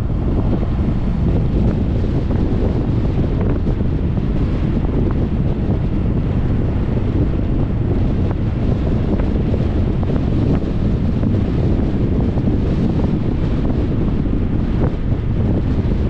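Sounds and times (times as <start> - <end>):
car wind and road noise: 0.0 - 16.0
wind buffeting microphone: 0.0 - 16.0.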